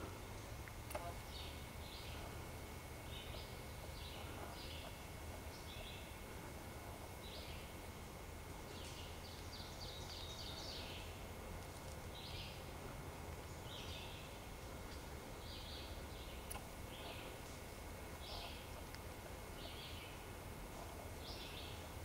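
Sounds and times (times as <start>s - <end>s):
faint low rumble: 0.0s - 22.0s
songbirds singing: 0.0s - 22.0s.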